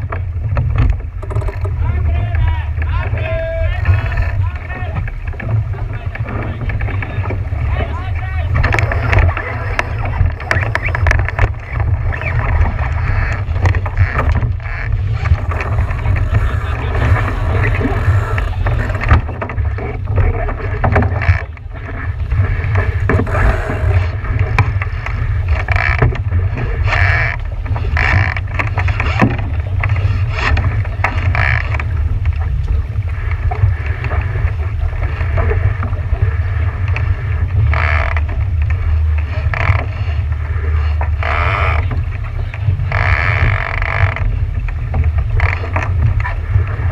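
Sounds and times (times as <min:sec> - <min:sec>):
steady low rumble: 0:00.0 - 0:46.9
water slapping against hull: 0:00.0 - 0:46.9
wind buffeting microphone: 0:00.0 - 0:46.9.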